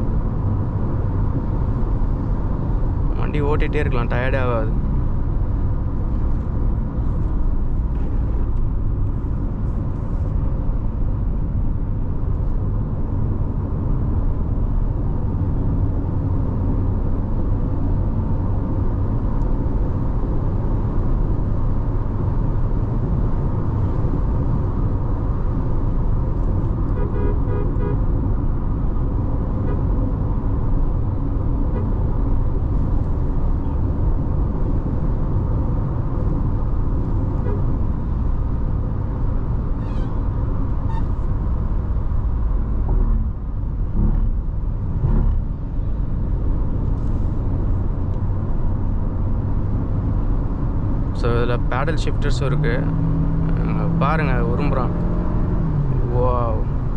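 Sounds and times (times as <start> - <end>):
car engine rumble: 0.0 - 56.9
tyres on road: 0.0 - 56.9.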